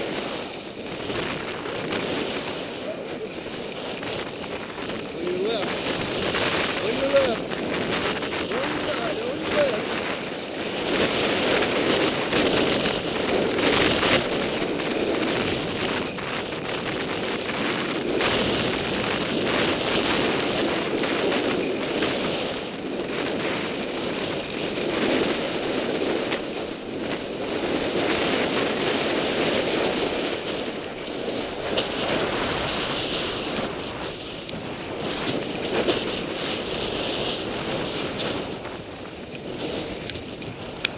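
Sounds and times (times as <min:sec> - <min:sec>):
skis carving snow: 0:00.0 - 0:40.9
wind rushing over microphone: 0:00.0 - 0:40.9.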